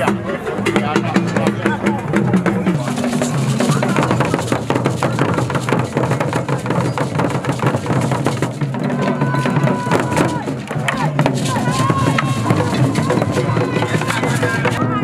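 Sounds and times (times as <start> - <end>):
drums struck with sticks: 0.0 - 15.0.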